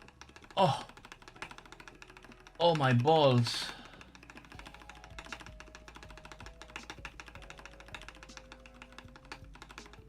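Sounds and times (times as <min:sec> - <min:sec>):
fast typing on keyboard: 0:00.0 - 0:10.0
quiet background music: 0:00.0 - 0:10.0.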